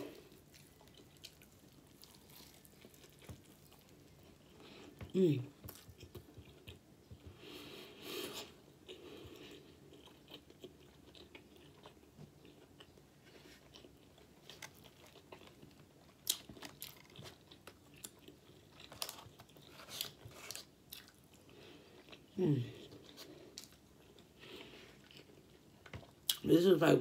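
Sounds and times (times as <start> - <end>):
close-up chewing: 0.0 - 7.5, 8.4 - 26.4.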